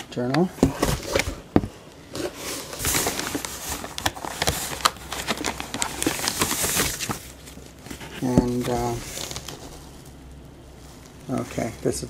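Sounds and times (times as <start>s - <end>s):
plastic and foam rustling: 0.1s - 12.0s.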